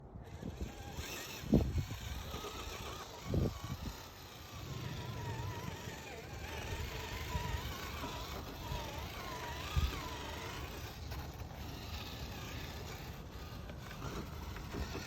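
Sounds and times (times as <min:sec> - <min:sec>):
electric motor whining: 0:00.0 - 0:15.0
tyres rumbling on rough ground: 0:00.2 - 0:15.0.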